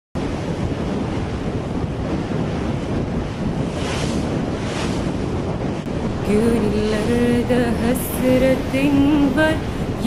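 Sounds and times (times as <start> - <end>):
sea waves rushing along boat: 0.2 - 10.0
wind on microphone: 0.2 - 10.0.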